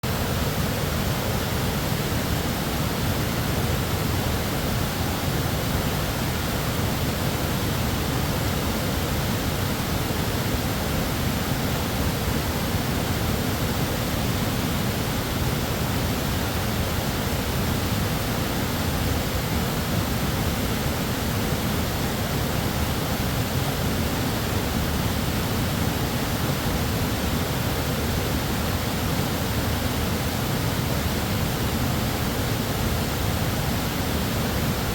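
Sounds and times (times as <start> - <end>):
waterfall rushing over rock: 0.1 - 34.9.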